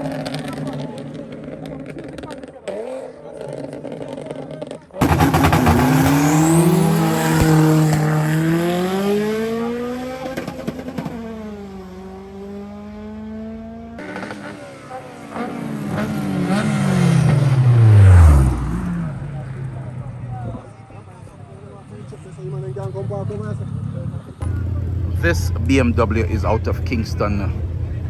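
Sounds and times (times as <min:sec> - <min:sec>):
race car engine accelerating: 0:03.5 - 0:21.1, 0:22.1 - 0:28.0.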